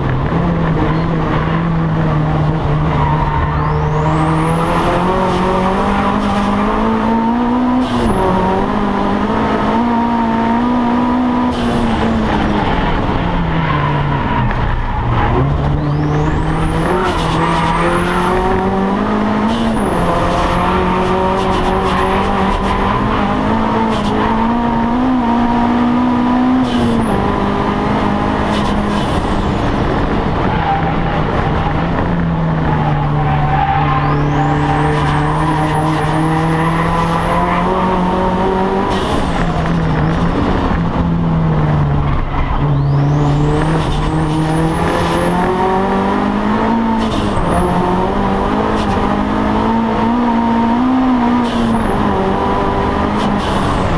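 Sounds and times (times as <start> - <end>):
race car engine revving: 0.0 - 53.9.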